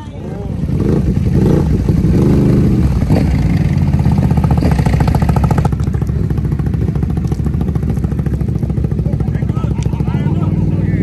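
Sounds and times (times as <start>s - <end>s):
engines revving: 0.0s - 11.0s.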